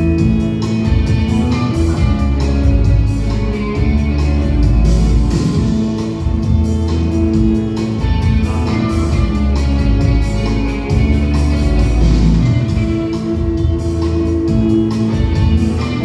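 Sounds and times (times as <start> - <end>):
steady bass: 0.0 - 16.0
strummed guitars: 0.0 - 16.0.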